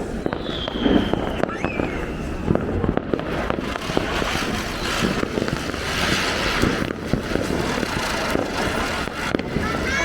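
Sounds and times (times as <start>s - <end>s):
firecrackers fizzing hiss: 0.0s - 10.0s.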